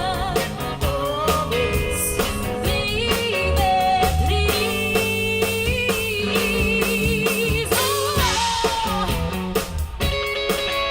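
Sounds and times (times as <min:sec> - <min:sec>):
woman singing: 0:00.0 - 0:09.8
guitar: 0:00.0 - 0:10.9
live pop-rock band: 0:00.0 - 0:10.9.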